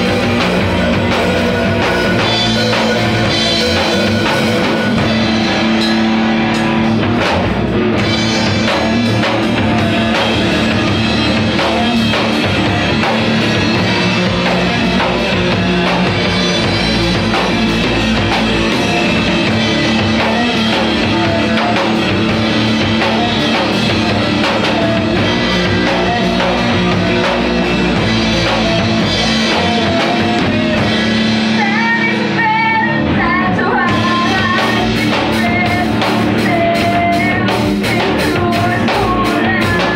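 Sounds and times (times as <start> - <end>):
rock music on drums and guitars: 0.0 - 39.9.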